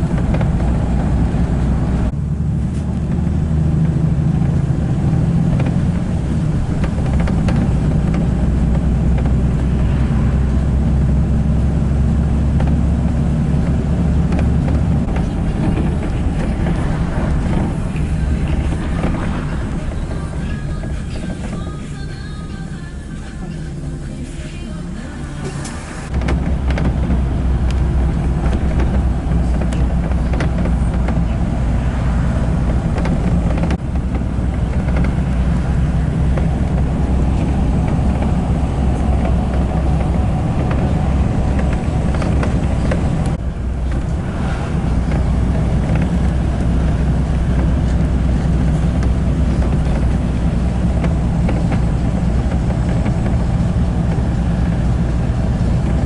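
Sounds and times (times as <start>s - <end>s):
vehicle rumbling from inside: 0.0s - 56.0s.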